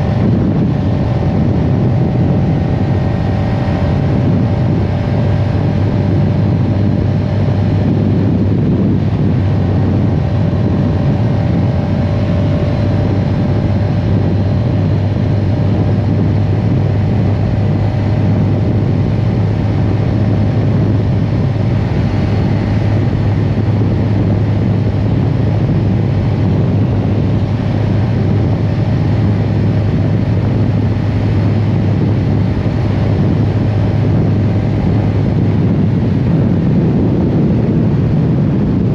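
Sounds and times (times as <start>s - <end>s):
motorcycle engine cruising: 0.0s - 38.9s
rushing noise: 0.0s - 38.9s.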